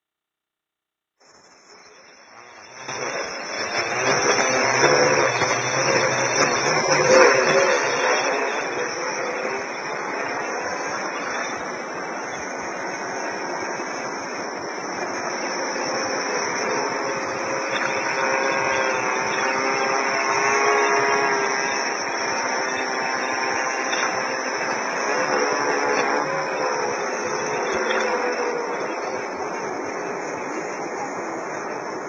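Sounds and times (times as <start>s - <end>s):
steady rushing noise: 1.5s - 32.0s
drone propellers buzzing: 1.7s - 32.0s.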